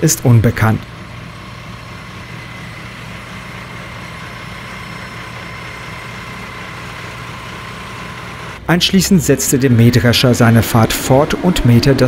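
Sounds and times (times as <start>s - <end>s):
heavy engine idling: 0.0s - 12.0s
thin steady whine: 0.0s - 12.0s.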